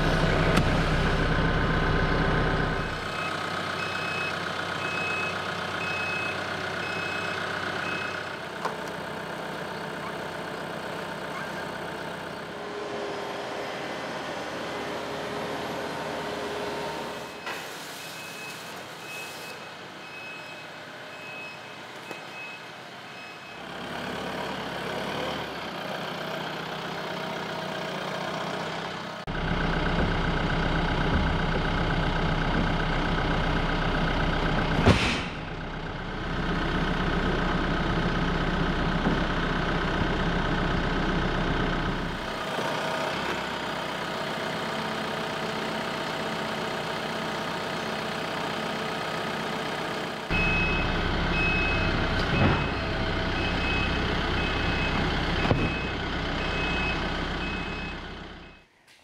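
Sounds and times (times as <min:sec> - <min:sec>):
tractor diesel engine running: 0:00.0 - 0:18.5, 0:23.5 - 0:58.8.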